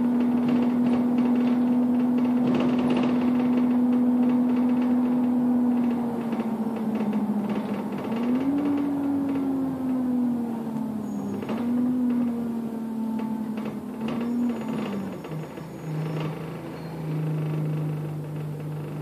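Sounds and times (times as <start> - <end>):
bus engine whine: 0.0 - 19.0.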